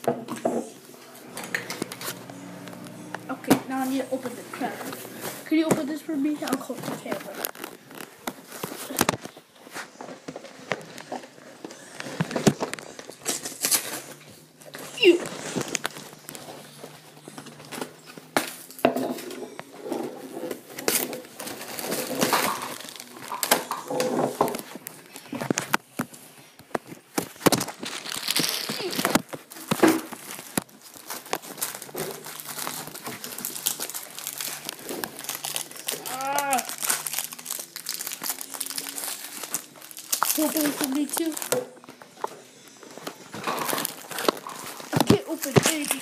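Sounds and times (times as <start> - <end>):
cracker box and wrapper crinkling: 0.0 - 46.0.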